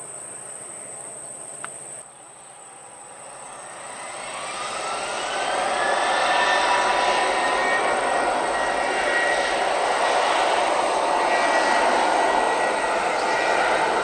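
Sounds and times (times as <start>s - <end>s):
jet engines rushing with whine: 0.0s - 14.0s.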